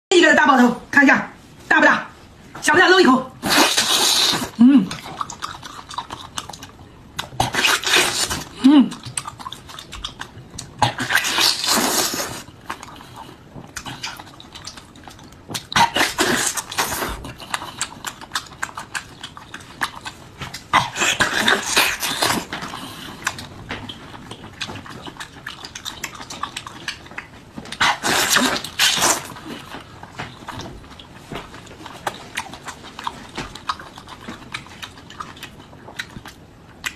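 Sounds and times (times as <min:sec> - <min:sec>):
wet chewing and slurping: 0:03.4 - 0:36.9.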